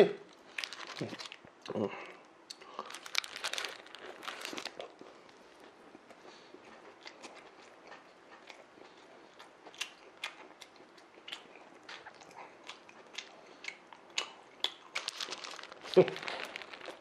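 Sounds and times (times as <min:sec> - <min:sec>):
person chewing with mouth closed: 0:01.0 - 0:17.0.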